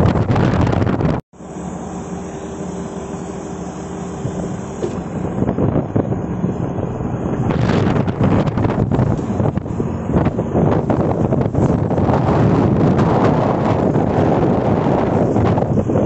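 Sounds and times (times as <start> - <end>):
wind buffeting microphone: 0.0 - 1.2, 4.0 - 16.0
steady rushing noise: 0.0 - 16.0.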